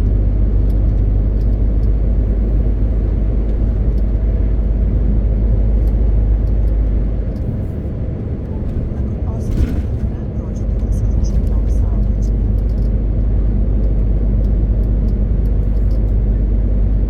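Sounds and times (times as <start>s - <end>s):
truck driving: 0.0s - 17.0s.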